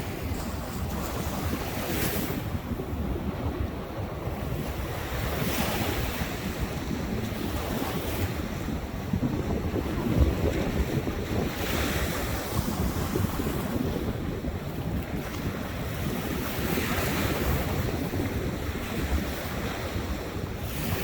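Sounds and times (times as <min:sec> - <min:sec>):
ocean surf washing ashore: 0:00.0 - 0:21.0
wind rumbling on microphone: 0:00.0 - 0:21.0.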